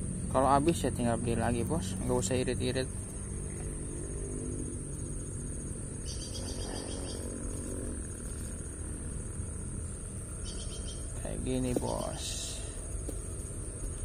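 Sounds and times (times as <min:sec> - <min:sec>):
insects pulsing chirp: 0:00.0 - 0:14.0
insects trilling: 0:00.0 - 0:14.0.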